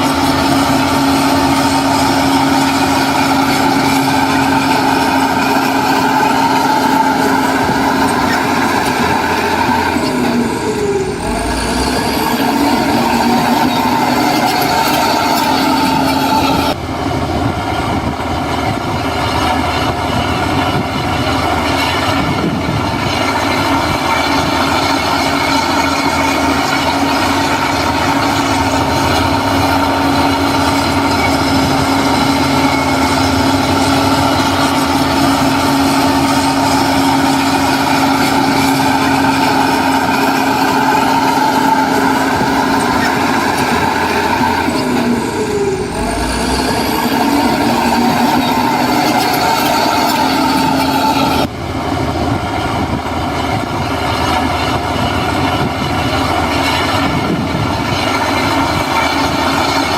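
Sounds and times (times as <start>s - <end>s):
diesel machinery engine hum: 0.0s - 59.9s
whining tone sliding down: 0.0s - 59.9s.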